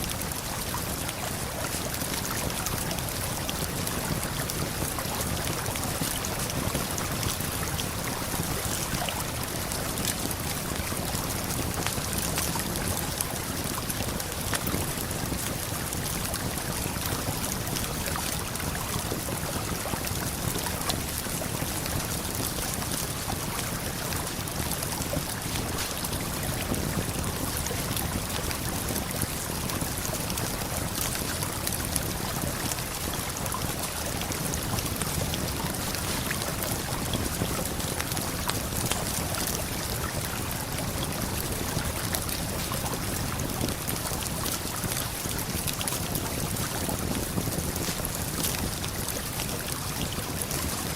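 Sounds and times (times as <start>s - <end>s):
campfire crackling: 9.4s - 50.6s.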